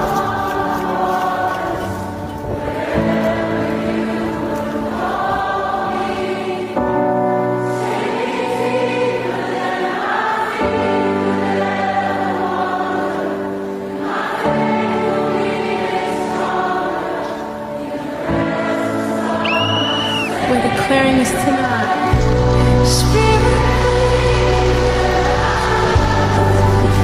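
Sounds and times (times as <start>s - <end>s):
choir singing slow worship song: 0.0s - 27.0s.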